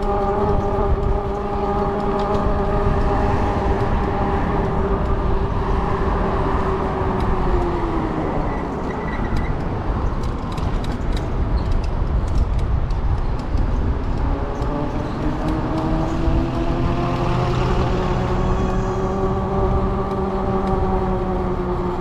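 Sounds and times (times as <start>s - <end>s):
wind and road rush: 0.0s - 22.0s.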